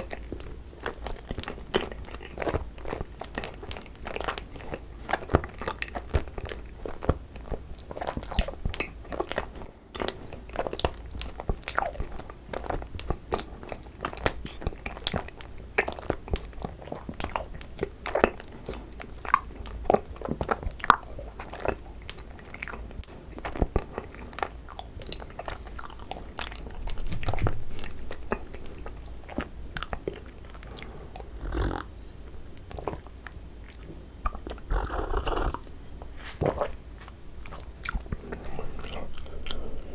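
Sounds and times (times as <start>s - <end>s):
close chewing and mouth clicks: 0.0s - 35.8s, 36.4s - 39.9s.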